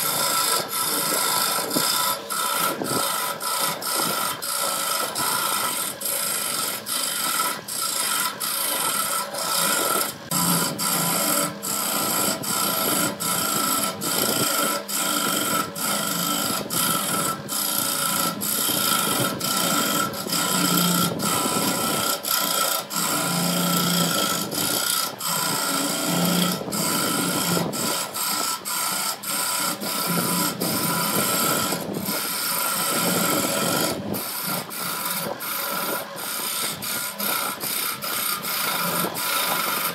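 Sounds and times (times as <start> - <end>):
turning tool shaving wood: 0.0 - 39.9
wood lathe whine: 0.0 - 39.9.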